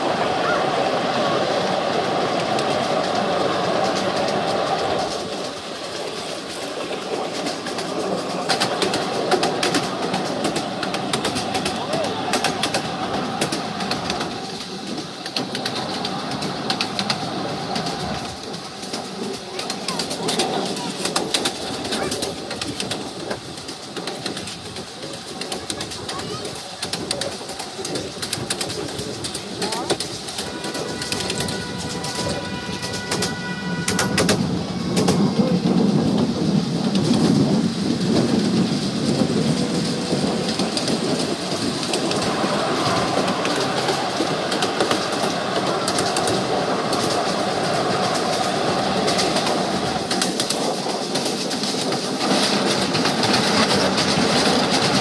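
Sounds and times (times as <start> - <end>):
train wheels rumbling on track: 0.0 - 55.0
clickety-clack wheel clicks: 0.5 - 55.0.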